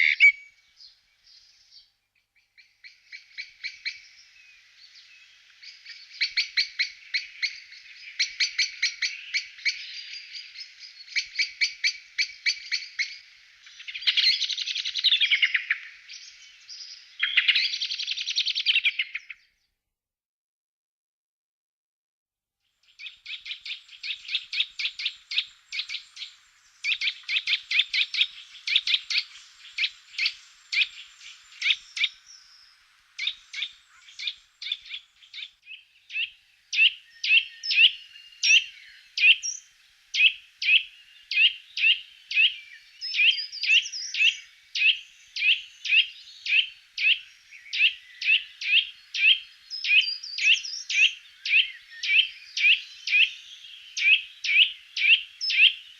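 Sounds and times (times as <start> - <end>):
small birds chirping: 0.0 - 19.7, 22.6 - 55.9.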